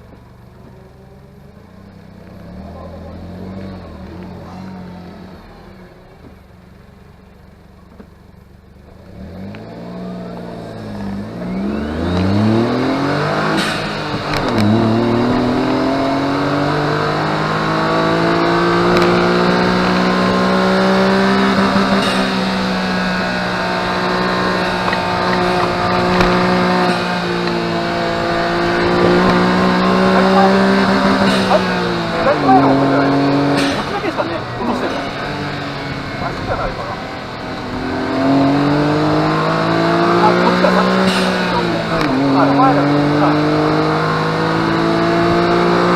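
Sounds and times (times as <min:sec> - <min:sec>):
car engine revving through upshifts: 0:02.2 - 0:06.0, 0:08.9 - 0:45.9.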